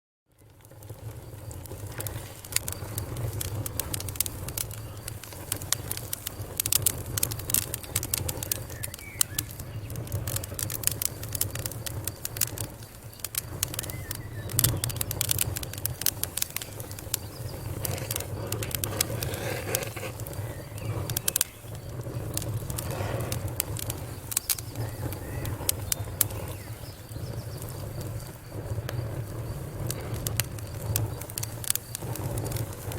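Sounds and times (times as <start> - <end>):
low rumble of flames: 0.3 - 32.9
wood fire crackling and popping: 0.3 - 32.9.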